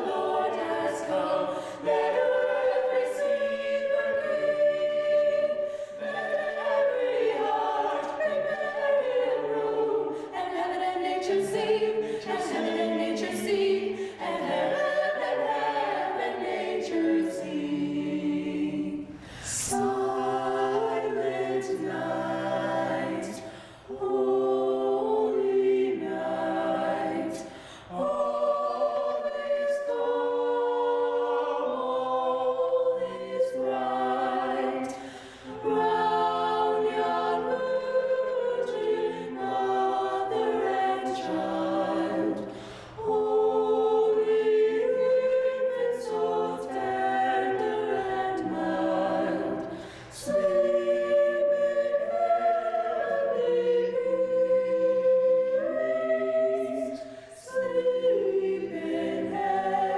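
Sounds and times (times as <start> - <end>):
choir singing a cappella: 0.0 - 59.9.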